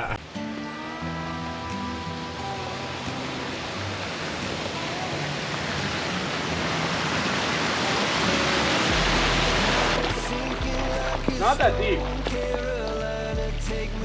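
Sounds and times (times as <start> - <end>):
faint music: 0.0 - 14.0.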